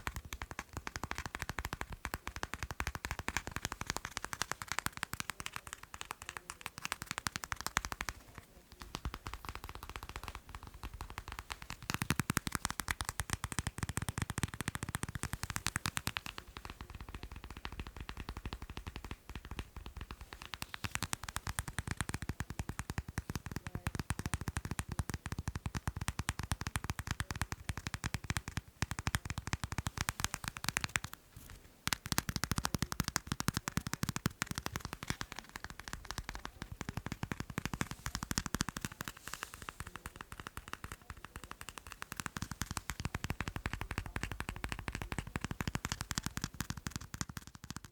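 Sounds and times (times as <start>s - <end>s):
fast tapping on macarons: 0.0s - 47.9s.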